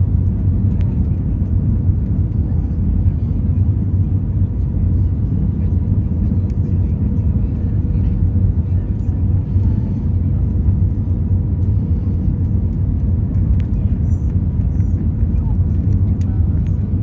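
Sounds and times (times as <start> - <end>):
airliner engine rumble: 0.0 - 17.0.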